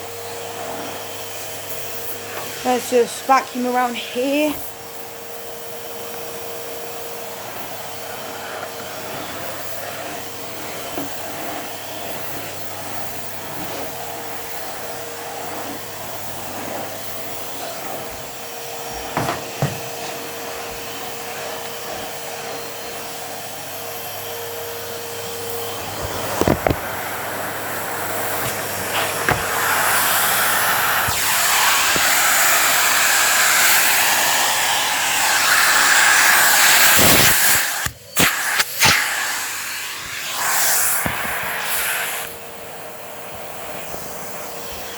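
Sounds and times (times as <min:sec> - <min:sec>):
vacuum cleaner running: 0:00.0 - 0:44.9
vacuum nozzle knocking: 0:00.4 - 0:23.9, 0:24.9 - 0:42.5.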